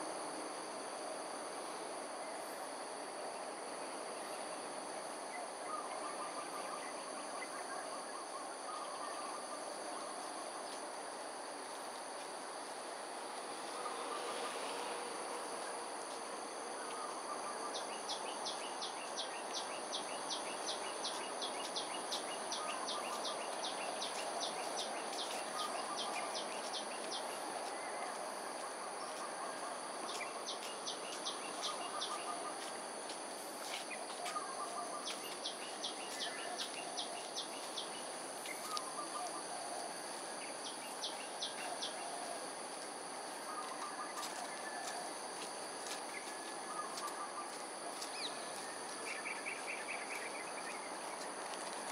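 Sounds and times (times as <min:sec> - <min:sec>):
high-pitched insect drone: 0:01.5 - 0:51.9.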